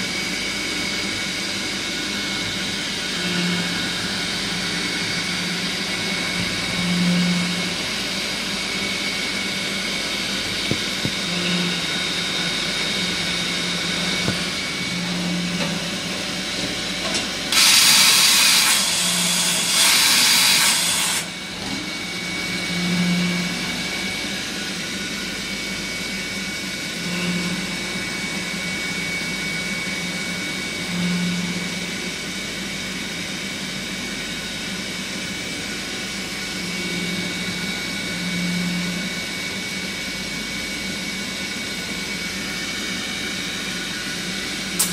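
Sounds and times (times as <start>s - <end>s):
lathe machine whine: 0.0s - 44.9s.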